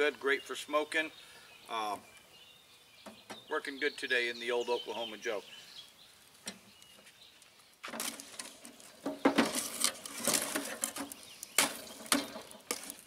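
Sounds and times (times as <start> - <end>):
wood scraping on coals: 0.0 - 13.0.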